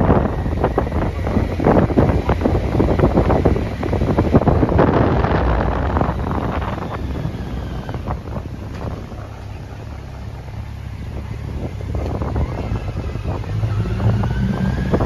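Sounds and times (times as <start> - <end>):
motorcycle engine rumble: 0.0 - 15.0
wind buffeting microphone: 0.0 - 15.0.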